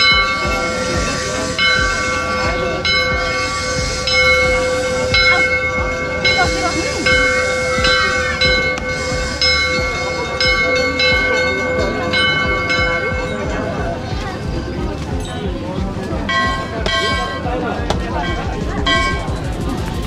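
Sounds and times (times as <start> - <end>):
temple bells ringing: 0.0 - 19.6.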